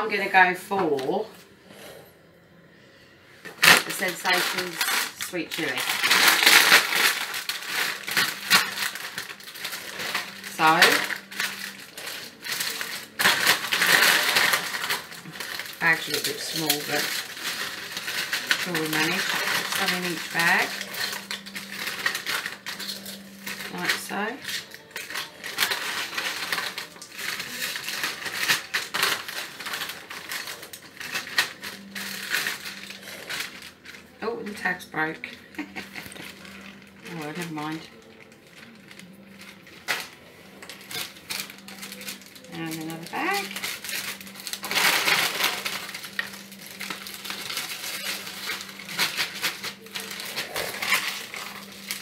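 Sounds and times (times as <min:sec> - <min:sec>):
foil packet rustling: 0:00.0 - 0:01.6, 0:03.4 - 0:52.0
crisps rattling: 0:03.5 - 0:52.0.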